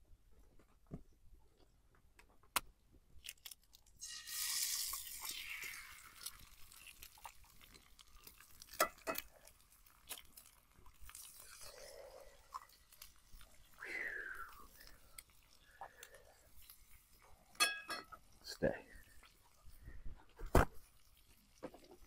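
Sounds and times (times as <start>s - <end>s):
eggs cracking on skillet: 3.2s - 22.0s
egg sizzling in hot pan: 3.8s - 22.0s.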